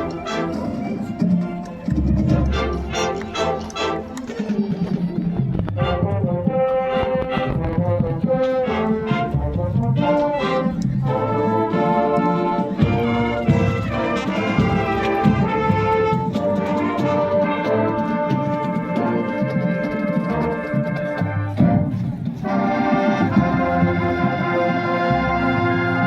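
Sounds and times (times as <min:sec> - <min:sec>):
brass band playing held chords: 0:00.0 - 0:04.7, 0:05.7 - 0:26.0
marching percussion: 0:00.0 - 0:26.0.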